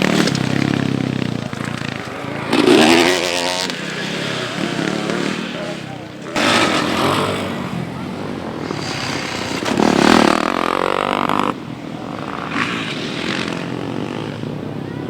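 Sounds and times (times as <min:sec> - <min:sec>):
motorcycle engines revving hard: 0:00.0 - 0:15.0.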